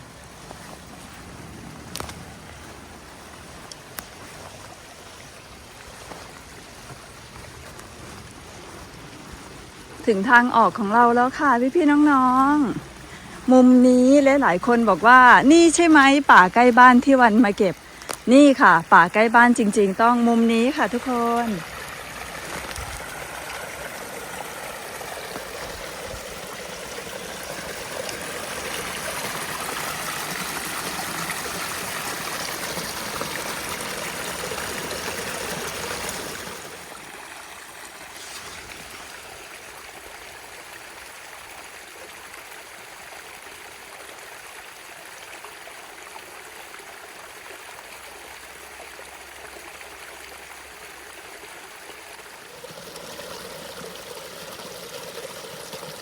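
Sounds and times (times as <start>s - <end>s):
forest stream rushing: 0.0s - 56.0s.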